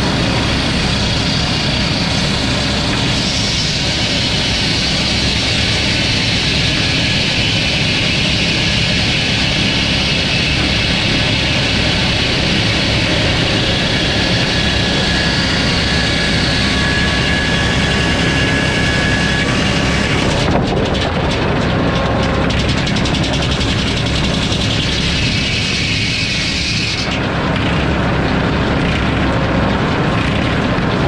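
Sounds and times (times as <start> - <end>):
sawmill engine and saw blade: 0.0 - 31.0.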